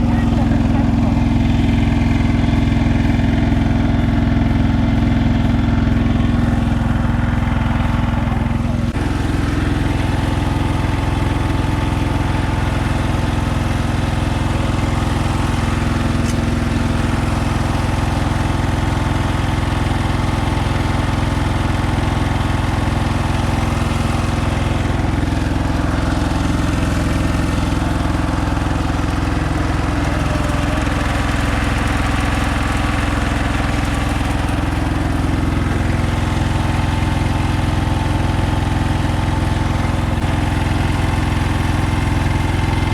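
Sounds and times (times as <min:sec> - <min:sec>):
harvester running: 0:00.0 - 0:42.9.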